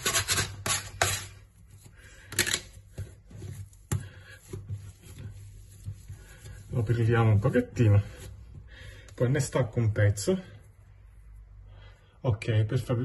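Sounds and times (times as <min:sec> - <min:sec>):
hands rubbing dough: 0:00.0 - 0:11.5.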